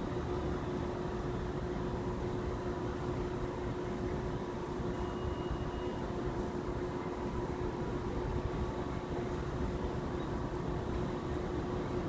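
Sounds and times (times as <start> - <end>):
constant low hum: 0.0 - 12.0
subway platform rumble: 0.0 - 12.0.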